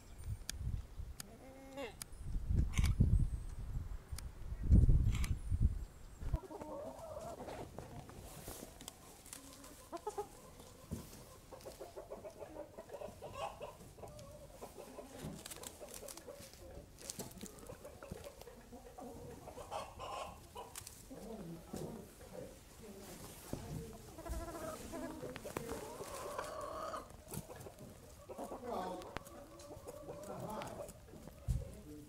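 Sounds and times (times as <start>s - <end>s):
hens clucking: 6.2s - 32.0s.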